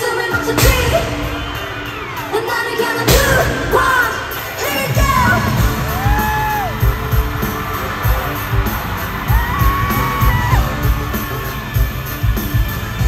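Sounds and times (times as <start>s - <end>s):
fans screaming and whooping: 0.0s - 13.0s.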